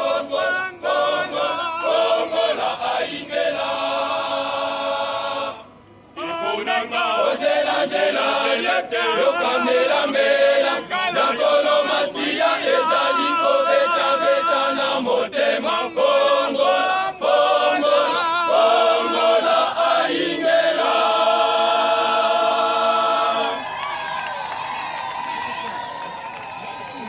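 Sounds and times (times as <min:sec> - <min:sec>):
male choir singing a cappella: 0:00.0 - 0:23.6.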